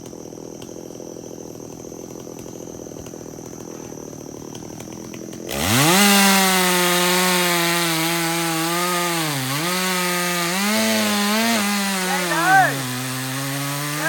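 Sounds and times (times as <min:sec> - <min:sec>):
chainsaw idling and revving: 0:00.0 - 0:14.0.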